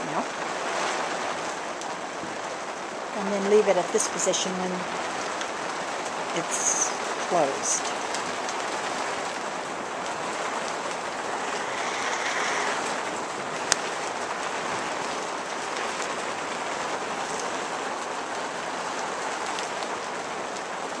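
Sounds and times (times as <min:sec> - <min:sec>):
rain on a roof: 0:00.0 - 0:21.0.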